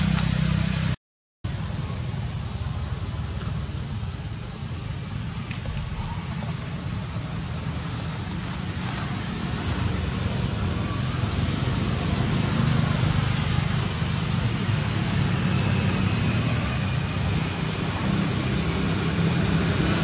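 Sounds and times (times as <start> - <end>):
constant high-pitched drone: 0.0 - 20.0.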